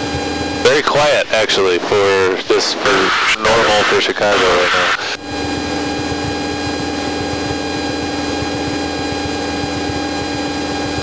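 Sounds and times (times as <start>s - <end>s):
aircraft engine droning in cabin: 0.0s - 11.0s.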